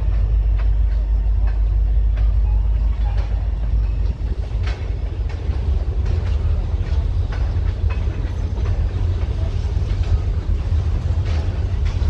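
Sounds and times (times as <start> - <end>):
freight train rumbling past: 0.0 - 12.0
train wheel clicks: 0.0 - 12.0.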